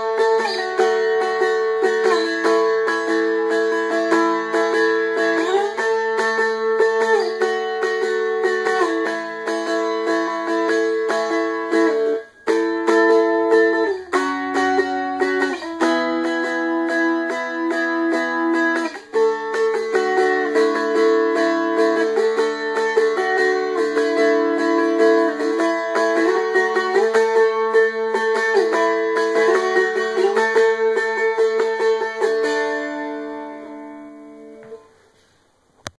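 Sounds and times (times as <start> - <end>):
strummed dulcimer melody: 0.0 - 34.9.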